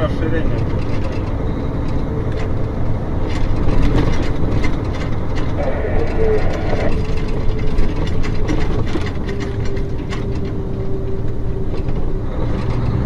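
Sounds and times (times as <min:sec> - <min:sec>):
road and engine drone: 0:00.0 - 0:13.0
light rattles: 0:00.1 - 0:13.0.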